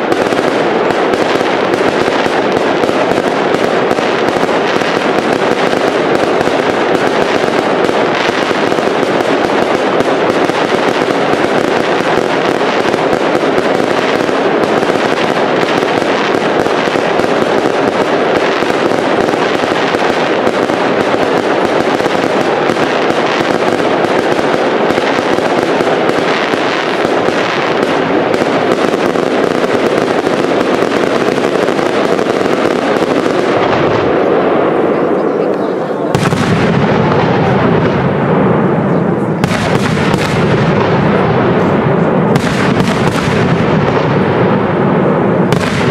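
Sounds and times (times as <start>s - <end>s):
fireworks crackling barrage: 0.0s - 45.9s.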